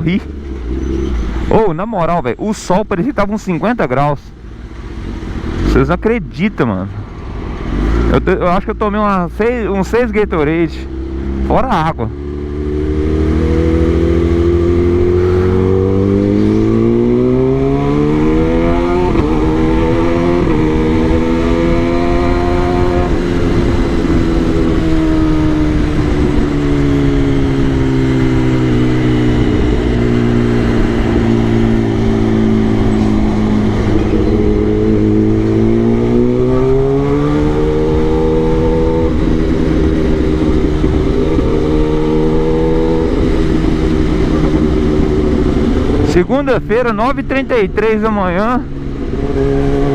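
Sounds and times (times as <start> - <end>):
motorcycle engine revving: 7.0 - 49.9.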